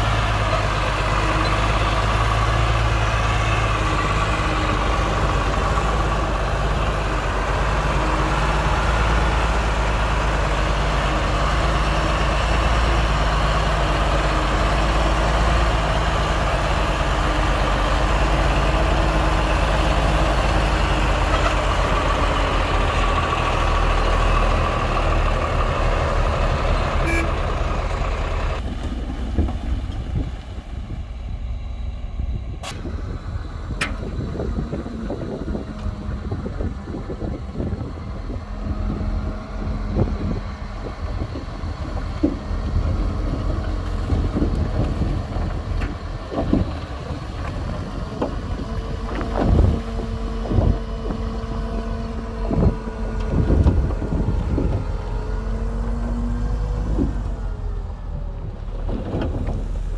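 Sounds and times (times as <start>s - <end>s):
diesel machinery engine rumble: 0.0s - 59.9s.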